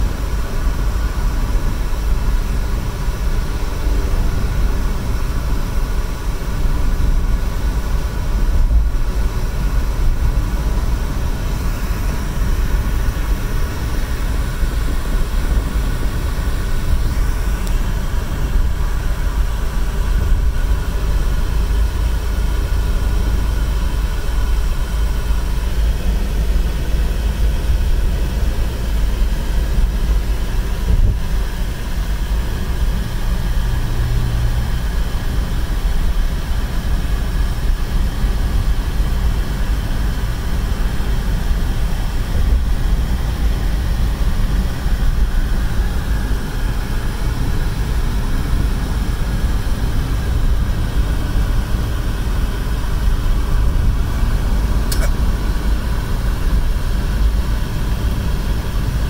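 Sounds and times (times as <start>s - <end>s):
car interior road noise: 0.0s - 59.0s.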